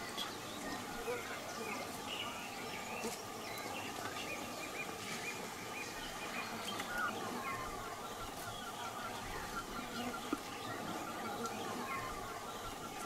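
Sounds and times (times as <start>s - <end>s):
birds chirping: 0.0s - 13.0s
steady natural ambience hiss: 0.0s - 13.0s.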